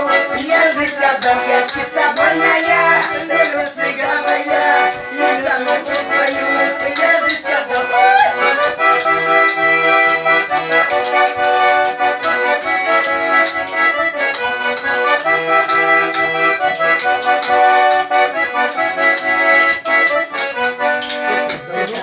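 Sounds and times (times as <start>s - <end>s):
accordion playing: 0.0s - 22.0s
light percussion beat: 0.0s - 22.0s.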